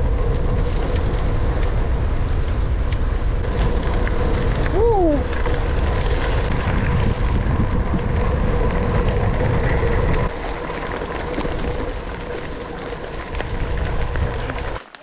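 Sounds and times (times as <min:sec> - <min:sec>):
wind buffeting camera: 0:00.0 - 0:14.8
bike tyres crunching on gravel: 0:00.0 - 0:15.0.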